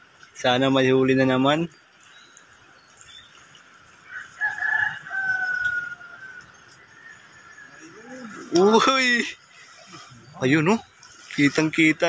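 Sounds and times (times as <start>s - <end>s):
drawn-out bird call: 2.0s - 11.9s.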